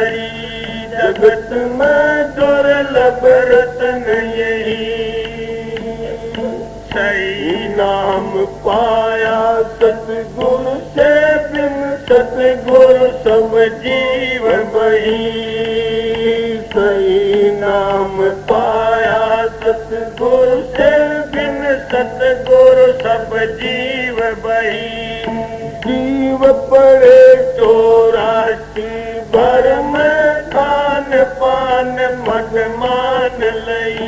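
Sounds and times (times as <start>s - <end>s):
man singing devotional chant: 0.0s - 34.0s.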